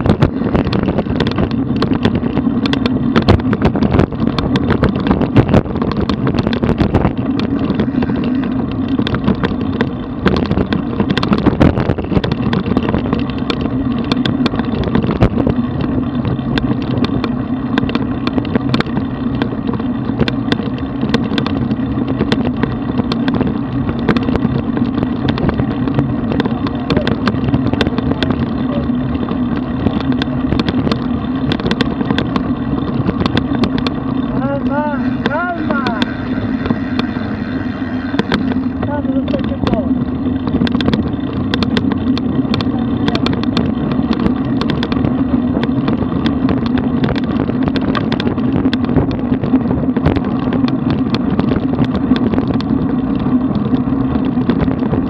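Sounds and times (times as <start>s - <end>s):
bicycle knocks and rattles: 0.0s - 55.0s
tyres rumbling on rough asphalt: 0.0s - 55.0s.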